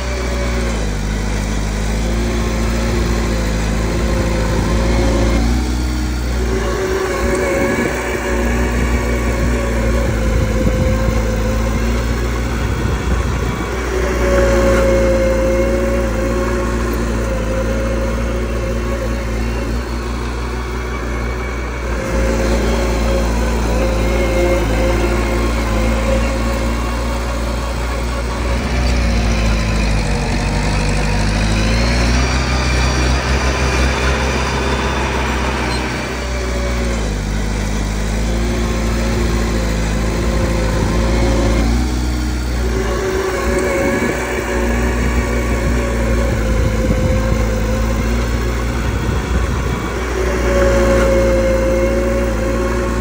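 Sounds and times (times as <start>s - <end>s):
bulldozer diesel engine running: 0.0s - 53.0s
thin high whine: 0.0s - 53.0s.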